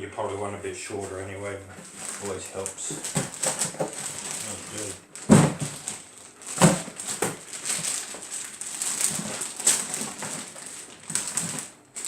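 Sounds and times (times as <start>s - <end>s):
plastic bags rustling: 1.0s - 12.0s.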